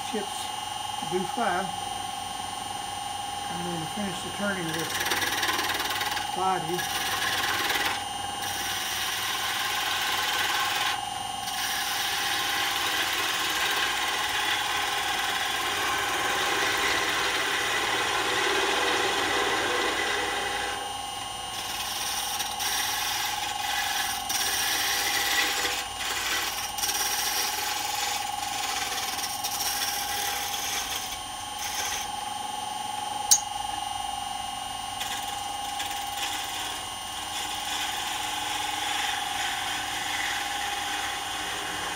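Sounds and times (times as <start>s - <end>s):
wood lathe whining: 0.0s - 32.3s, 35.0s - 41.9s
turning tool scraping wood: 3.4s - 20.9s, 21.5s - 32.1s, 35.0s - 41.9s.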